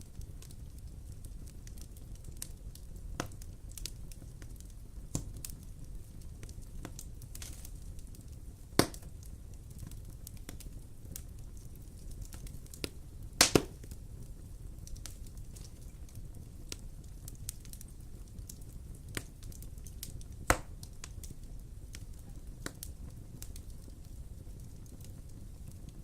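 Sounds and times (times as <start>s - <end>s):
fire crackling and popping: 0.0s - 26.0s
low rumble of fire: 0.0s - 26.0s.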